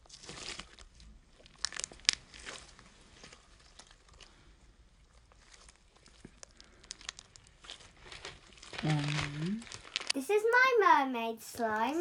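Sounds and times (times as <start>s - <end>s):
foam ball slime crackling: 0.0s - 10.7s.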